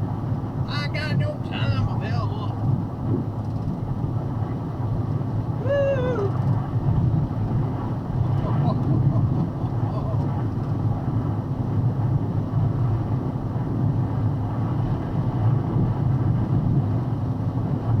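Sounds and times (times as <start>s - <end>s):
vehicle rumble from inside cab: 0.0s - 18.0s
wind noise: 0.0s - 18.0s.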